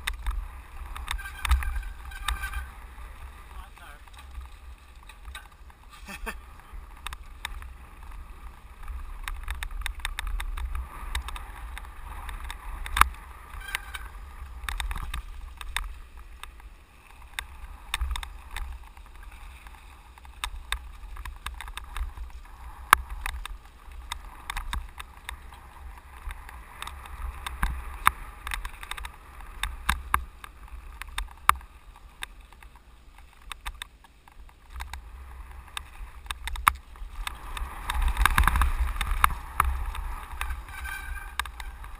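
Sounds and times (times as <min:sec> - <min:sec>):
bike rattling over bumps: 0:00.0 - 0:41.9
bike tyres rushing: 0:00.0 - 0:41.9.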